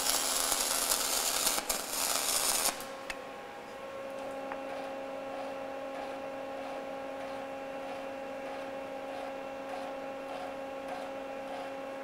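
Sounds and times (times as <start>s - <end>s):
electrical hum from welding rig: 0.0s - 12.0s.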